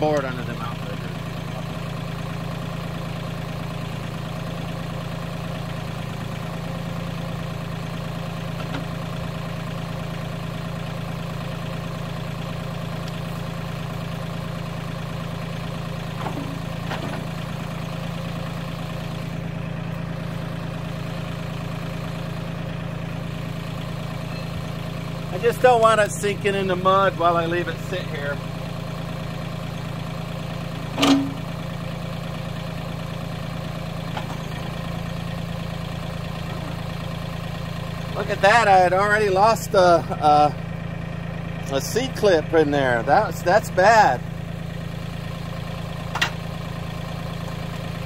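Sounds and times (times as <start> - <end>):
tractor diesel engine idling: 0.0 - 48.0.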